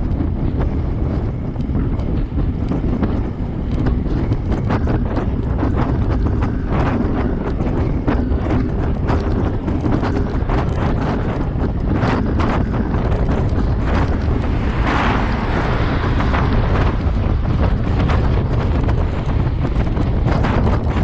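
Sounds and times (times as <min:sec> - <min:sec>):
bike clicking and rattling: 0:00.0 - 0:14.8, 0:16.2 - 0:21.0
wind buffeting microphone: 0:00.0 - 0:21.0.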